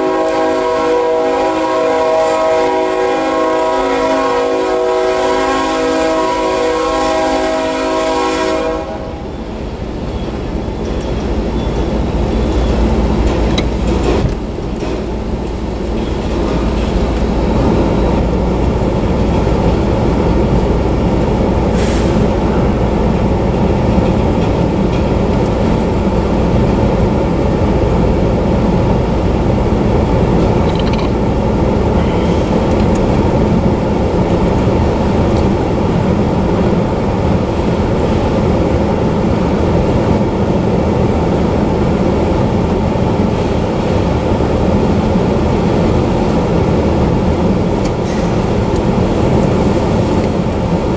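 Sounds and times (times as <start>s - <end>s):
freight train wheels rumbling on rails: 0.0s - 50.9s.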